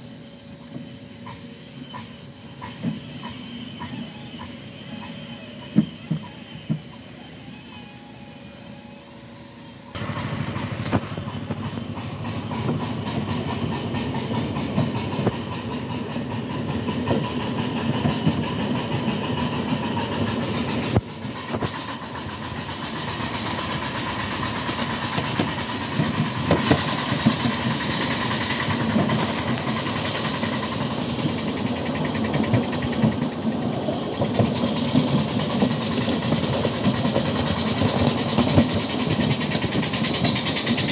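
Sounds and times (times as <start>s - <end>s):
train wheels rumbling and clicking: 0.0s - 7.8s, 9.9s - 40.9s
steam hiss: 0.0s - 40.9s.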